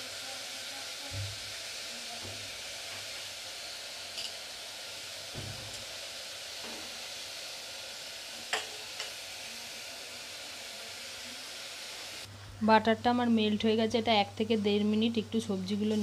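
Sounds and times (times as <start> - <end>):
chicken and vegetables sizzling: 0.0 - 16.0.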